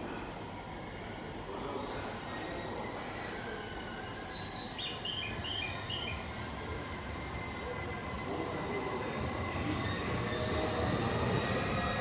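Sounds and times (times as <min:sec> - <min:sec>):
electric train rumbling: 0:00.0 - 0:12.0
high train whine: 0:00.0 - 0:12.0.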